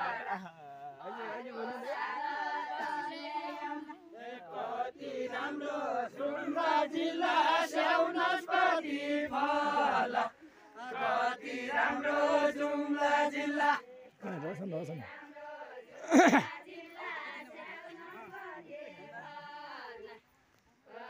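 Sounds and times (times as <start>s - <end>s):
group singing unaccompanied: 0.0s - 21.0s.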